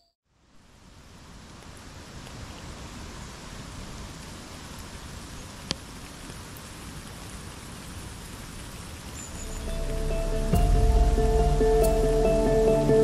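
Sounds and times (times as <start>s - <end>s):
steady hiss: 0.3s - 13.0s.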